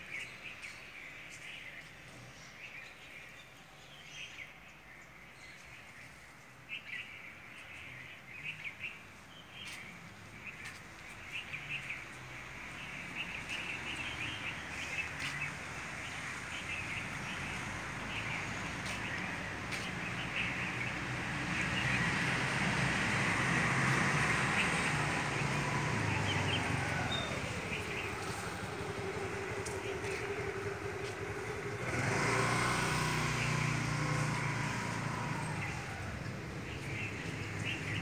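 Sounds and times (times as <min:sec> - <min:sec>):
outdoor background noise: 0:00.0 - 0:38.0
small birds chirping: 0:00.0 - 0:38.0.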